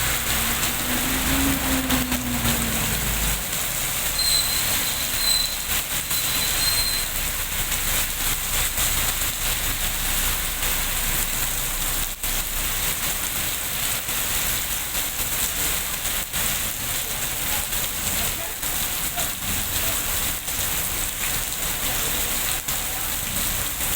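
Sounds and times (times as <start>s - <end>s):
heavy rain: 0.0s - 23.9s.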